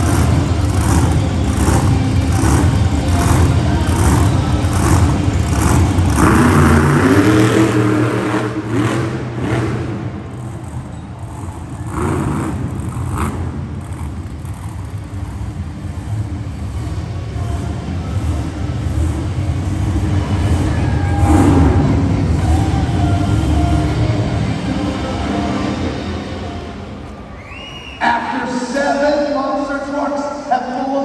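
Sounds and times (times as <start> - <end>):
truck engine revving: 0.0 - 29.4.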